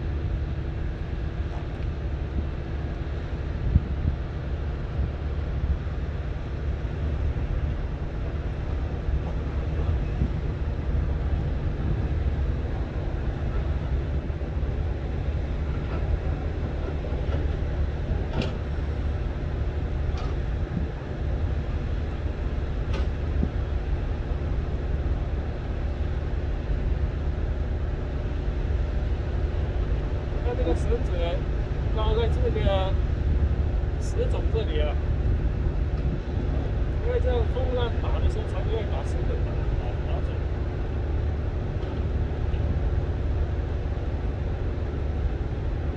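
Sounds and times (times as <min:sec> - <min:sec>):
rough surf: 0:00.0 - 0:45.9
strong wind on microphone: 0:02.0 - 0:06.4, 0:07.0 - 0:17.1, 0:19.1 - 0:25.6, 0:29.8 - 0:45.9.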